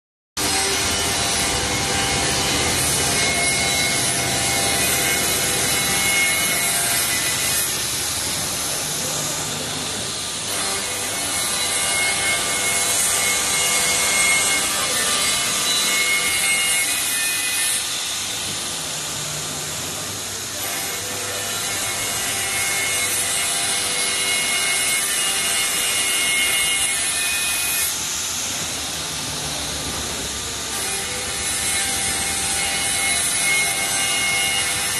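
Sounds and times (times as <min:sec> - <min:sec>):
saw blades whining: 0:00.4 - 0:34.9
saw cutting wooden board: 0:00.4 - 0:34.9.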